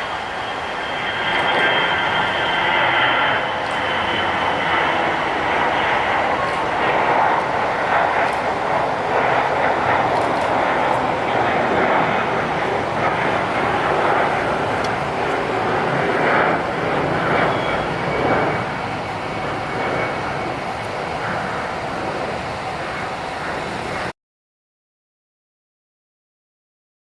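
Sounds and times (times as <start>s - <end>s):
jet engines roaring: 0.0s - 24.1s.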